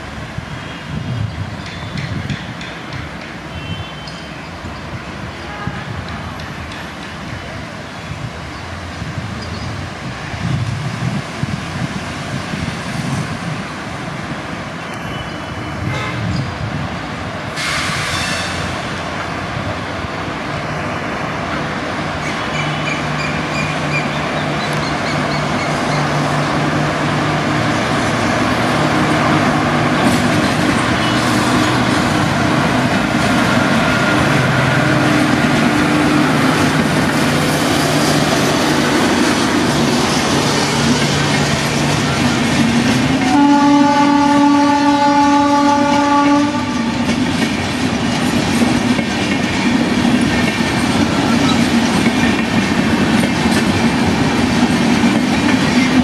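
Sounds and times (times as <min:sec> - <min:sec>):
electric locomotive hum: 0:00.0 - 0:56.0
train coaches rolling past: 0:00.0 - 0:56.0.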